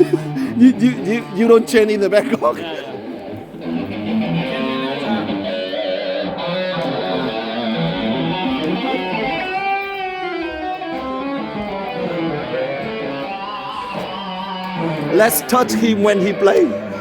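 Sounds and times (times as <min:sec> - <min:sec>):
electric guitar solo: 0:02.7 - 0:17.0.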